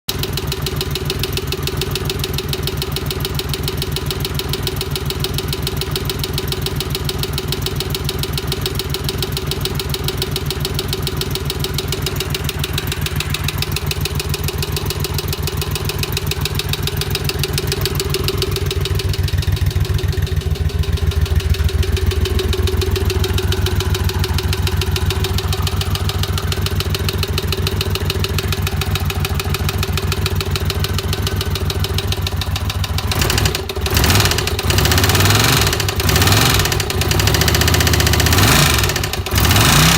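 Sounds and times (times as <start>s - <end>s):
motorcycle engine idling with rattle: 0.1s - 39.9s.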